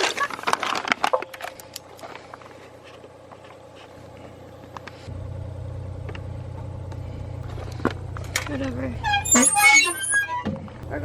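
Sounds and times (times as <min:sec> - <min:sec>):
motor vehicle rumbling: 0:00.1 - 0:11.0.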